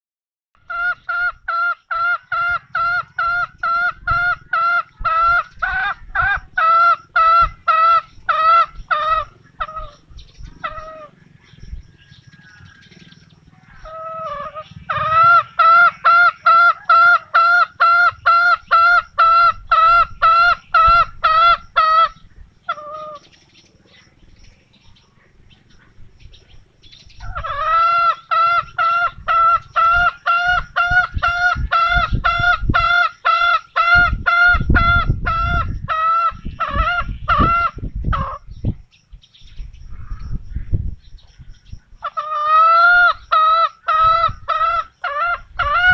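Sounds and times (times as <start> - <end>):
junglefowl calling: 0.6 - 24.0, 26.9 - 38.5, 42.0 - 45.9.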